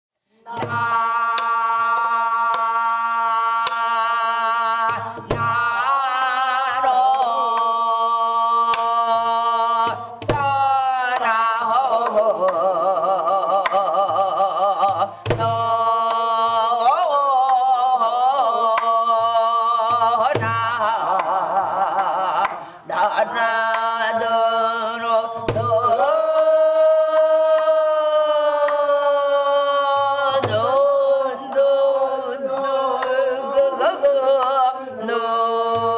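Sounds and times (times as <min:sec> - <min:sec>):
woman singing with vibrato: 0:00.4 - 0:35.9.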